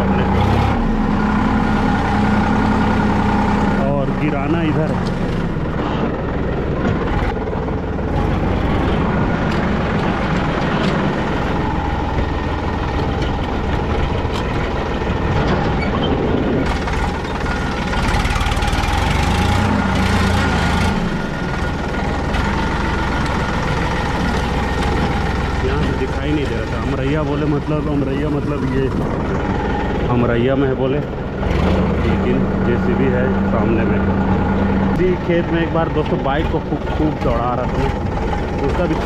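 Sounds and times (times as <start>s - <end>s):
diesel tractor engine running: 0.0s - 39.0s.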